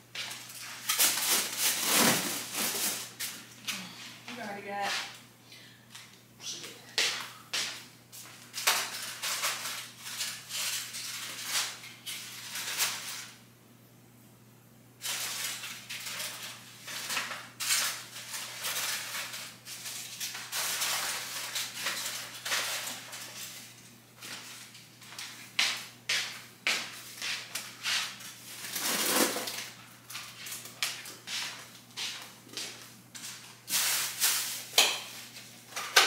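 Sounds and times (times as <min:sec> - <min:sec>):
crinkling and rustling wrappings: 0:00.2 - 0:04.9, 0:08.2 - 0:13.4, 0:15.0 - 0:25.9, 0:26.8 - 0:32.0, 0:32.6 - 0:36.0.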